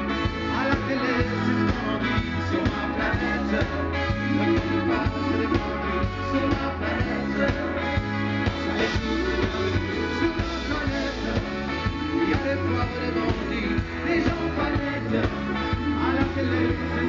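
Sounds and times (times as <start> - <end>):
backing singers: 0.0 - 17.0
bass: 0.0 - 17.0
brass: 0.0 - 17.0
drum kit: 0.0 - 17.0
electric guitar: 0.0 - 17.0
person singing into a microphone: 0.0 - 17.0.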